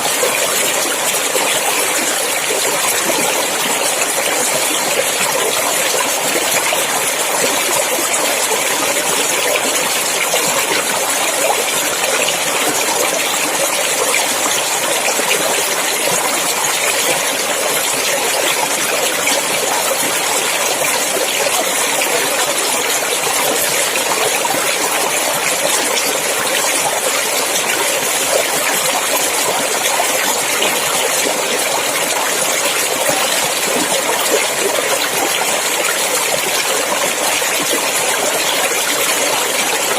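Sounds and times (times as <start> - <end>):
stream water over rocks: 0.0 - 39.9.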